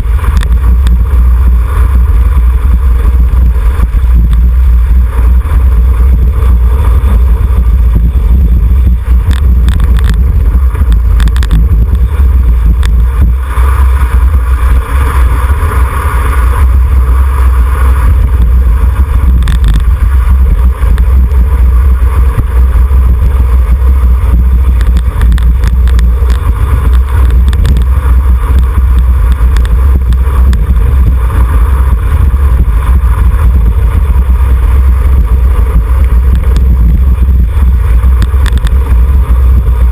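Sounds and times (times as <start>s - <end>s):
road and tyre noise: 0.0s - 39.9s
wind rush: 0.0s - 39.9s.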